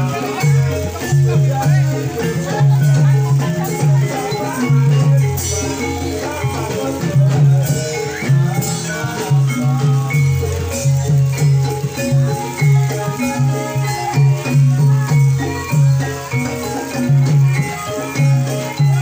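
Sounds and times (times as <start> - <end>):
gamelan ensemble music: 0.0 - 19.0.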